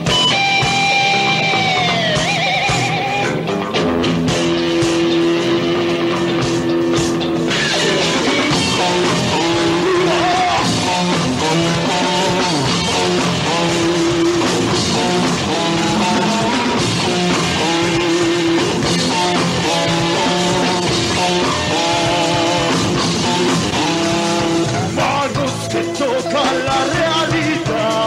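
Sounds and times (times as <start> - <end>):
bass guitar: 0.0 - 28.0
drum kit: 0.0 - 28.0
electric guitars playing riff: 0.0 - 28.0.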